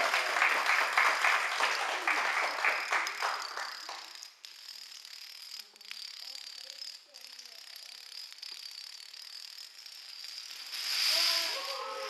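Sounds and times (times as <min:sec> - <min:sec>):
plastic dominoes clattering: 0:01.5 - 0:12.0.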